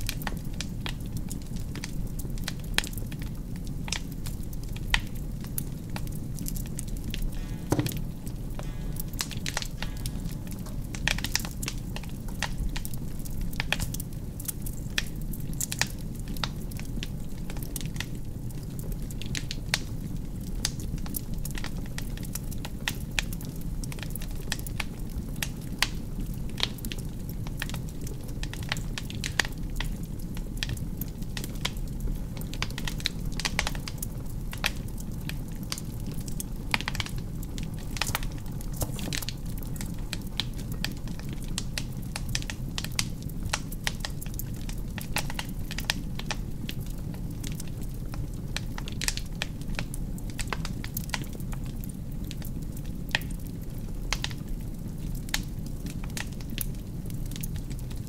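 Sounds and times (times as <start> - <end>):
logs crackling and popping: 0.0 - 58.0
low rush of flames: 0.0 - 58.0.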